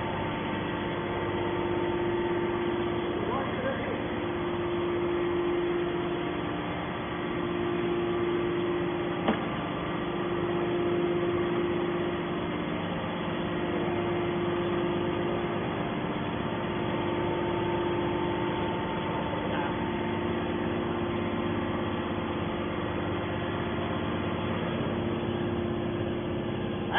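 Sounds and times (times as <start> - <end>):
hydraulic pump humming: 0.0 - 26.9.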